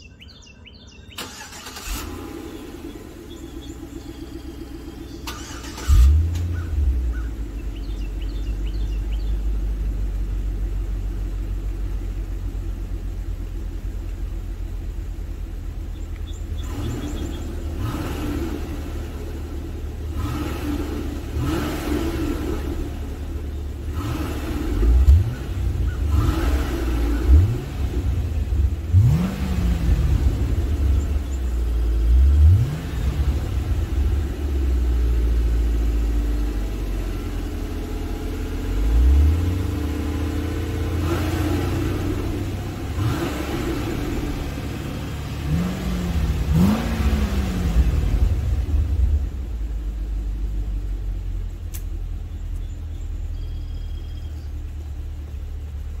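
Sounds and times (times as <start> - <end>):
engine idling: 0.0 - 56.0
engine revving: 1.2 - 56.0.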